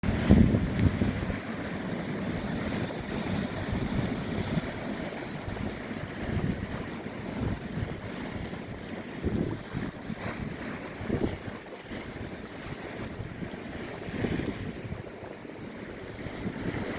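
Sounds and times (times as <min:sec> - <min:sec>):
rushing sea water: 0:00.0 - 0:16.9
wind buffeting microphone: 0:00.0 - 0:16.9.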